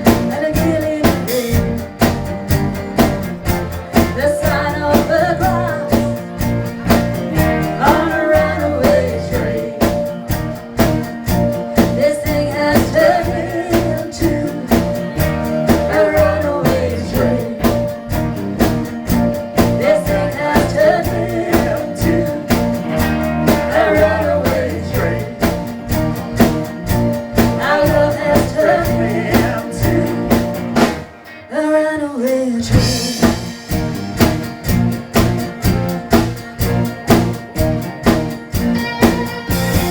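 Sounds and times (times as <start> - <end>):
drum kit beat: 0.0 - 31.4, 32.7 - 39.9
bass guitar: 0.0 - 31.5, 32.7 - 39.9
electric guitars: 0.0 - 39.9.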